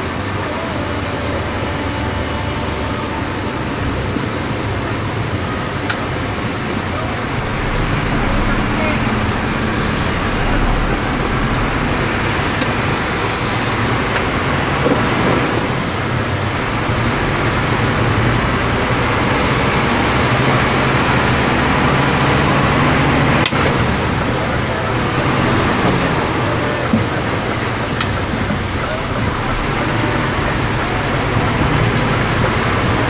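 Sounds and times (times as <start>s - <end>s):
road and traffic noise: 0.0s - 33.0s
truck diesel engine running: 0.0s - 33.0s.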